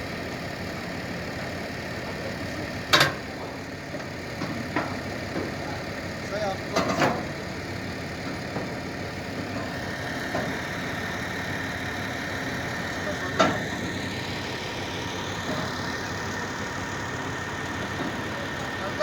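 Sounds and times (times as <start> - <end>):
engine idling: 0.0 - 19.0
engine knocks: 2.0 - 19.0.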